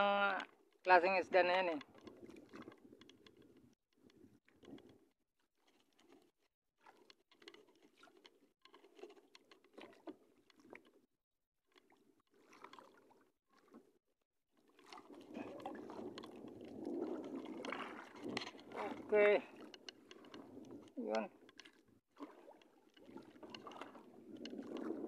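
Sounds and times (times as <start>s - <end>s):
water sloshing against boat hull: 0.0s - 25.0s.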